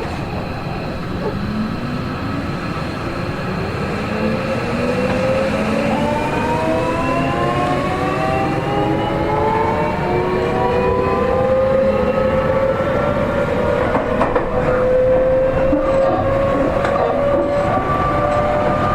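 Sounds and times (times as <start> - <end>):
electric train motors whining: 0.0 - 18.9
wheels rumbling on rails: 0.0 - 18.9.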